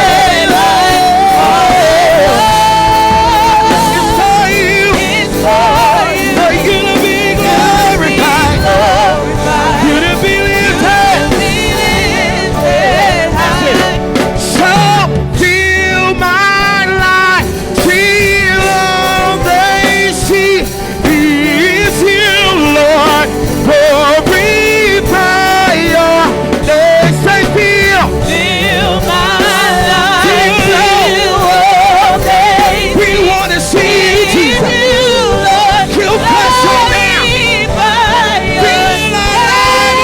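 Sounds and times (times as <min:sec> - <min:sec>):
band playing worship music: 0:00.0 - 0:40.0
singers holding long notes: 0:00.0 - 0:40.0.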